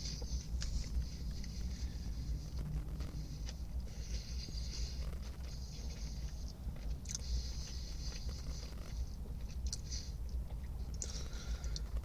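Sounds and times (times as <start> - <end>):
low hum: 0.0 - 12.0
person chewing crunchy food: 0.0 - 12.0.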